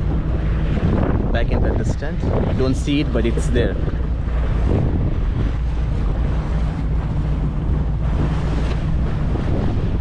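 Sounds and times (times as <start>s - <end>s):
motorboat engine drone: 0.0s - 10.0s
water rushing against hull: 0.0s - 10.0s
wind buffeting microphone: 0.0s - 10.0s.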